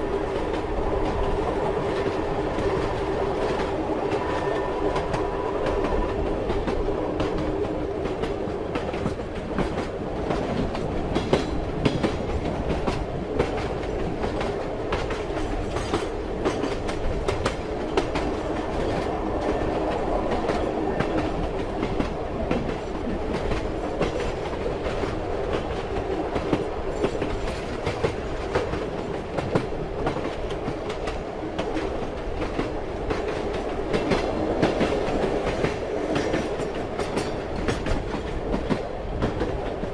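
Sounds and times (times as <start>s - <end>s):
train rumbling along track: 0.0s - 39.9s
wheels clacking over rail joints: 0.4s - 39.9s.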